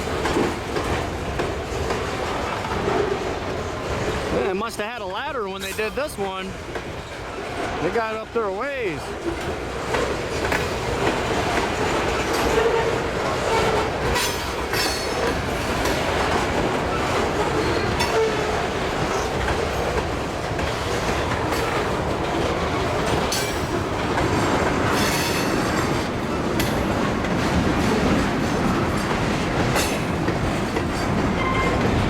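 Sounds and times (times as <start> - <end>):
train wheels clattering over joints: 0.0 - 32.0.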